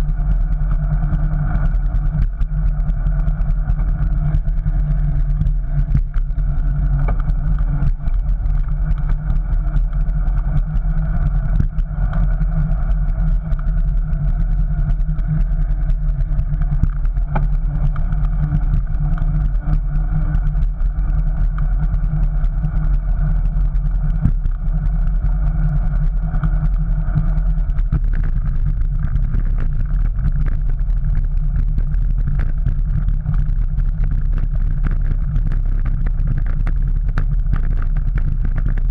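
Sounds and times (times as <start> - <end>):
bicycle rumbling over stone paving: 0.0 - 22.8, 23.6 - 38.9.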